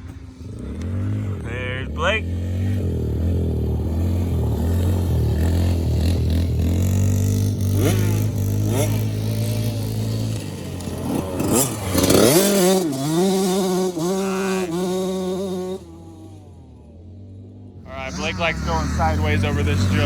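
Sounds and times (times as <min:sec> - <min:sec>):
small off-road engines revving: 0:00.0 - 0:20.0.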